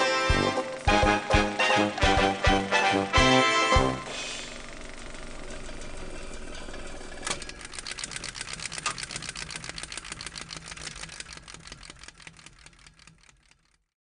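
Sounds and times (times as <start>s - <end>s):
film projector rattling: 0.1s - 2.7s, 4.1s - 13.9s.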